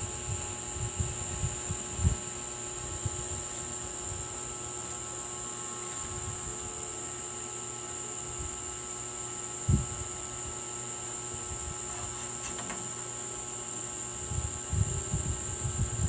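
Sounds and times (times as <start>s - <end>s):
electrical hum: 0.0s - 16.0s
thin high whine: 0.0s - 16.0s.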